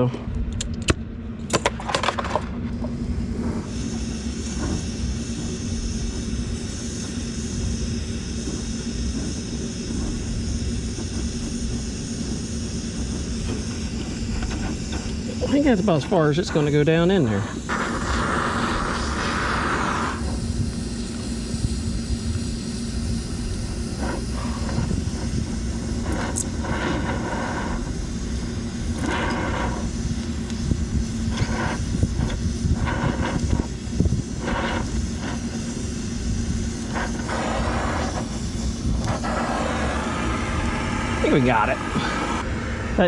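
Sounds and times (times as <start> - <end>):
brazing torch roaring: 0.0 - 43.0
steady hum: 0.0 - 43.0
hissing surges: 3.0 - 43.0.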